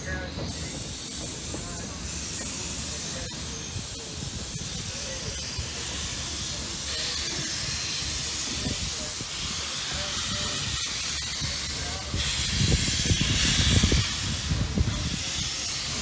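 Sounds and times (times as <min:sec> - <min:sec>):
steam locomotive hissing: 0:00.0 - 0:16.0
train coaches rumbling past: 0:00.0 - 0:16.0.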